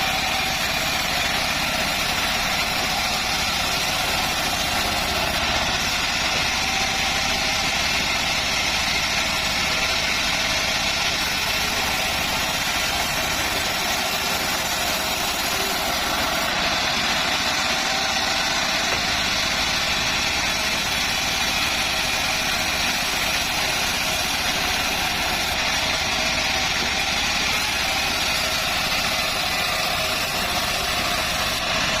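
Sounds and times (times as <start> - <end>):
bandsaw mill droning: 0.0 - 32.0.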